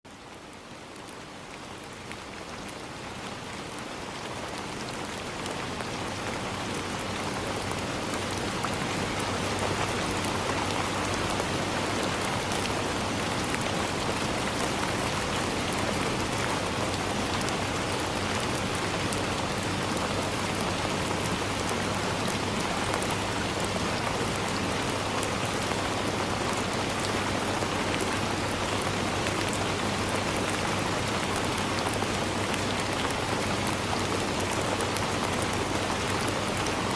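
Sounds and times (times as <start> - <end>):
rain on leaves: 0.1 - 36.9.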